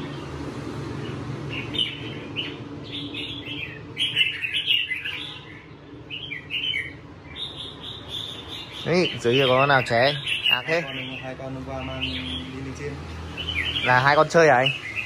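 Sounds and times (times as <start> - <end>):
birds singing chirpy phrases: 0.0 - 15.0.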